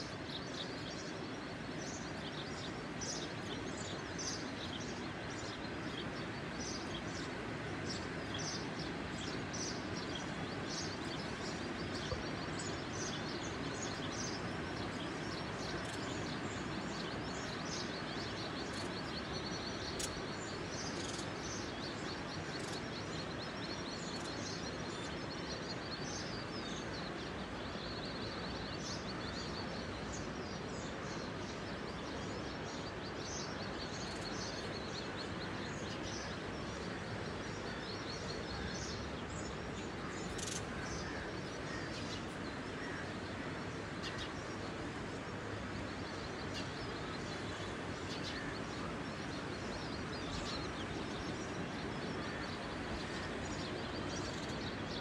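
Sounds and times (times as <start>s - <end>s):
birds chirping in high trills: 0.0s - 27.4s, 28.1s - 55.0s
outdoor background noise: 0.0s - 55.0s.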